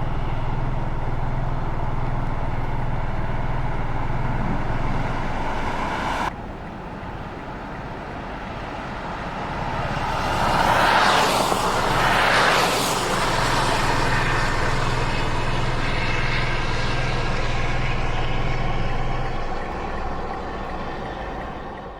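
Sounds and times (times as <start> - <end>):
low engine hum: 0.0 - 21.9.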